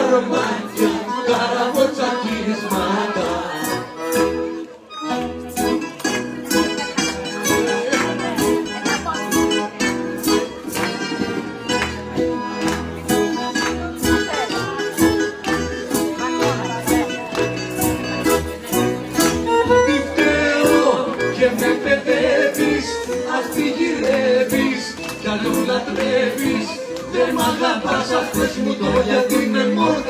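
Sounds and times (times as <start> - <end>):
string band with accordion: 0.0 - 30.0.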